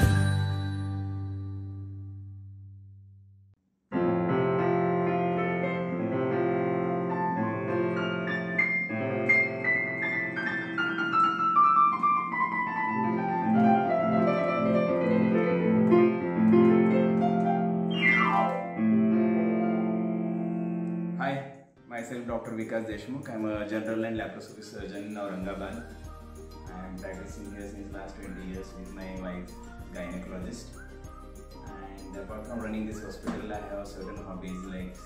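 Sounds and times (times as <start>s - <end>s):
electronic keyboard piano melody: 3.9s - 21.2s, 21.9s - 35.0s.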